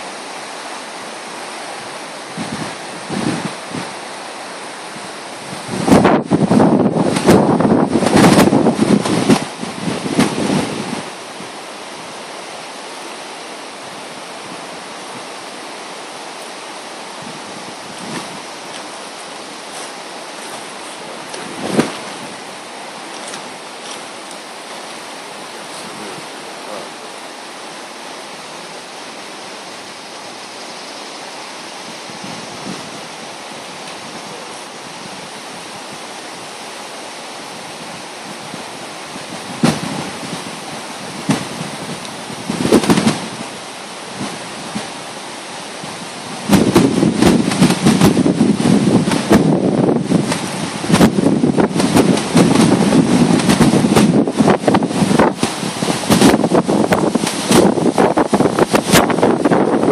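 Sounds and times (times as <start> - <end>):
flooded river rushing: 0.0 - 59.9
wind buffeting microphone: 1.6 - 12.4, 16.6 - 27.7, 31.7 - 59.9.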